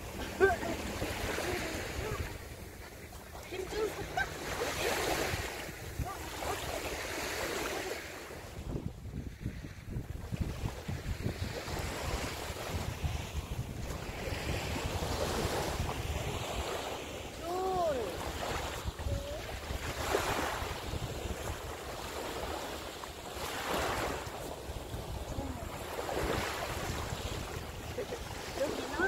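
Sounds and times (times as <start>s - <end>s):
sea surf washing on sand: 0.0s - 29.0s
wind buffeting microphone: 0.0s - 29.0s.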